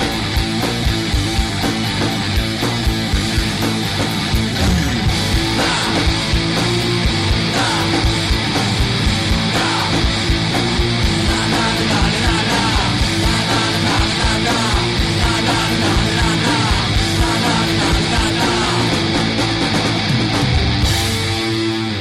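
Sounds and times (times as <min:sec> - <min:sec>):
steady drum beat: 0:00.0 - 0:21.7
distorted electric guitars: 0:00.0 - 0:22.0.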